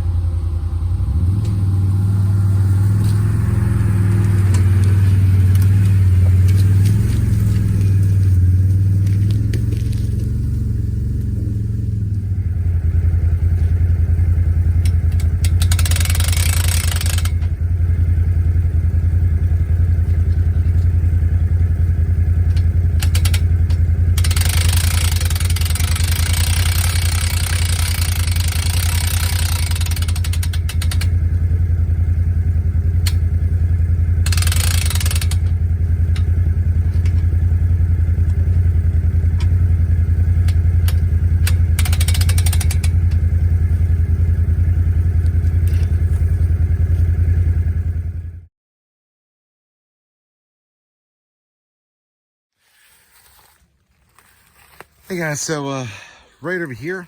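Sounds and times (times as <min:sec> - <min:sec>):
atv engine running: 0:00.0 - 0:48.5, 0:52.7 - 0:57.0.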